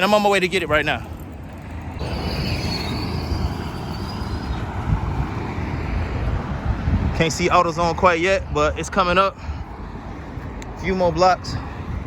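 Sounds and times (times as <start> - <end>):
road traffic noise: 0.0 - 12.0
wind rumbling on microphone: 0.4 - 12.0.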